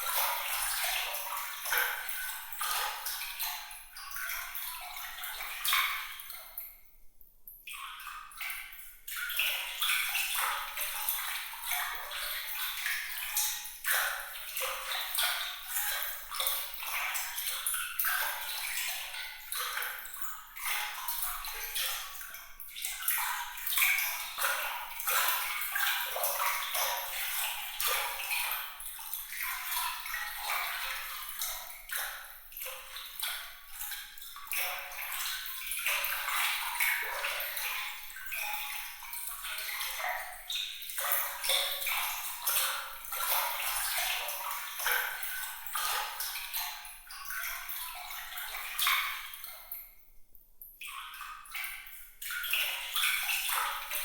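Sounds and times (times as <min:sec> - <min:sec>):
water trickling and splashing: 0:00.0 - 0:06.9, 0:07.7 - 0:50.0, 0:50.6 - 0:54.0.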